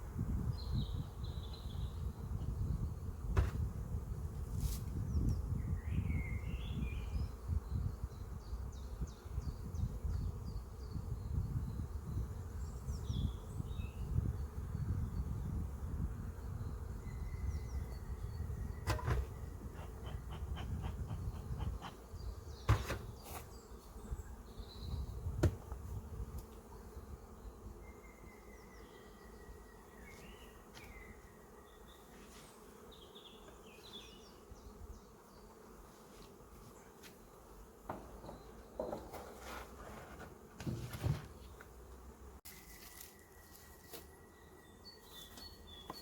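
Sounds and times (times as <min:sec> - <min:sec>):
bees buzzing: 0:06.6 - 0:46.0.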